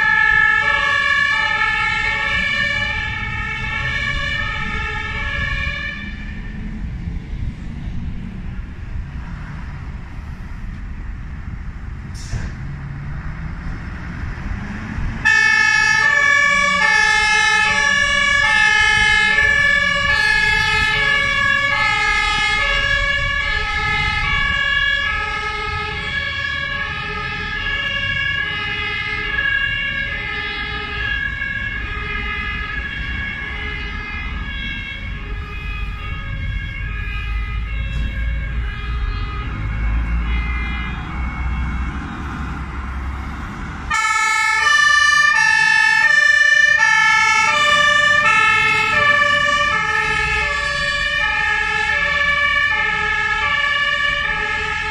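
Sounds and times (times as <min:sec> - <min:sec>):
fire engine two-tone siren: 0:00.0 - 0:07.6, 0:14.3 - 0:54.9.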